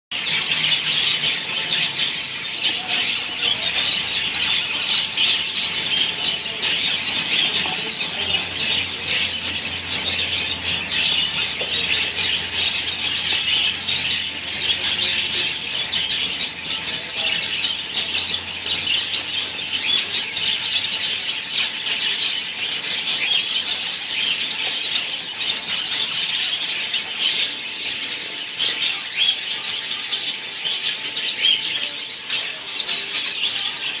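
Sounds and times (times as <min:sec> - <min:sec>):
finches chirping: 0:00.1 - 0:34.0.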